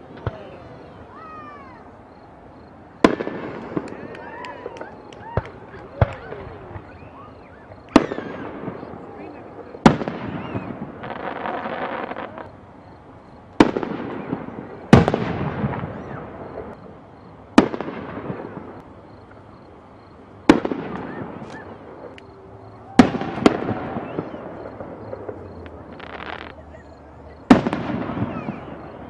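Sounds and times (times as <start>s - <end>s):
fireworks booming: 0.0s - 29.0s.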